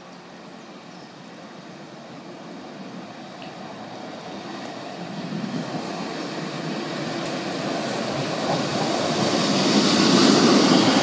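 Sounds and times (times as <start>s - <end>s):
diesel train approaching: 0.0s - 11.0s.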